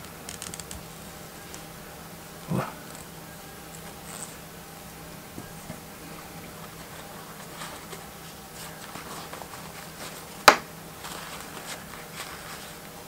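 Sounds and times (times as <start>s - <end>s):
paper towel rustling: 2.5s - 13.0s.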